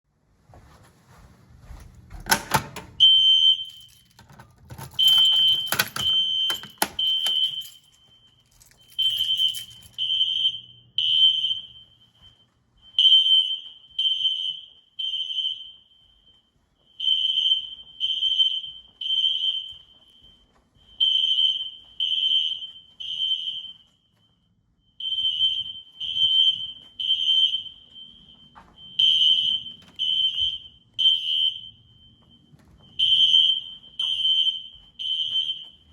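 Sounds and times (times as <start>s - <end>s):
fire alarm horn blasts: 2.3s - 35.9s.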